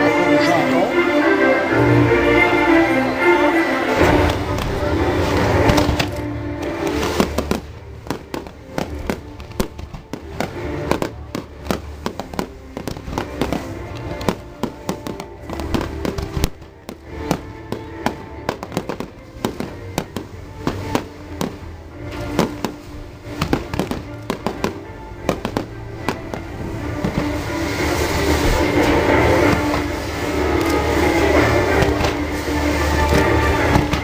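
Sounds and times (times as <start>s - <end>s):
music: 0.0s - 34.0s
fireworks bangs and crackles: 3.9s - 34.0s.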